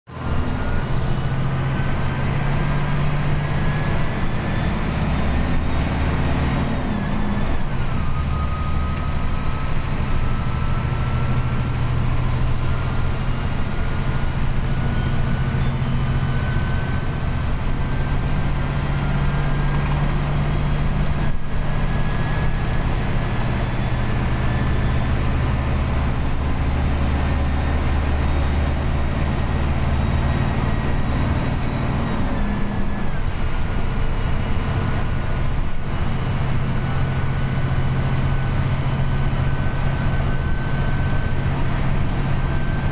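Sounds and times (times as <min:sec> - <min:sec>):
diesel engine drone: 0:00.1 - 0:42.9
road noise: 0:00.1 - 0:42.9.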